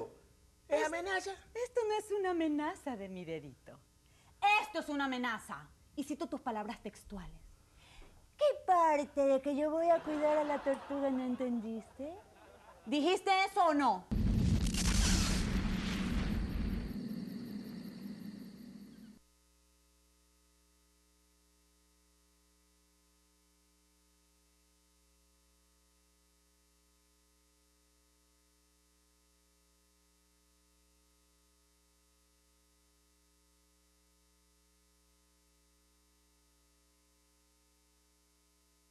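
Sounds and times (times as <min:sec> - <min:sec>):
faint electrical mains hum: 0:00.0 - 0:38.9.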